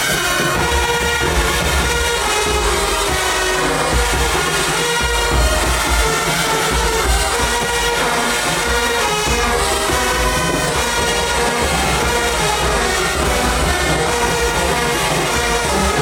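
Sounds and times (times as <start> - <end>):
drum pulse: 0.0 - 16.0
marching band playing: 0.0 - 16.0.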